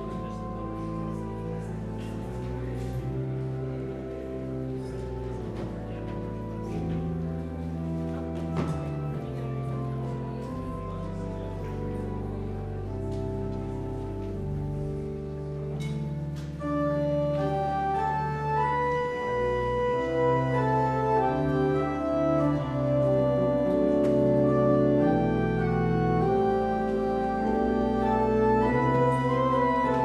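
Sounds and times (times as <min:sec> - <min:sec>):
church organ chords: 0:00.0 - 0:30.0.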